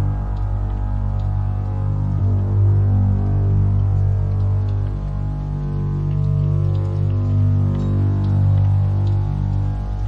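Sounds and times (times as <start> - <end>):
dark ambient drone music: 0.0 - 10.0.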